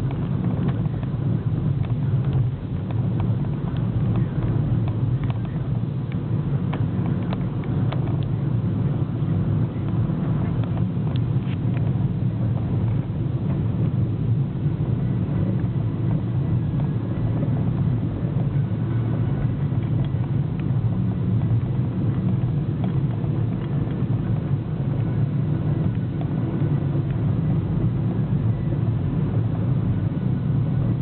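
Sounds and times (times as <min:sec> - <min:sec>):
car engine and tyre hum: 0:00.0 - 0:31.0.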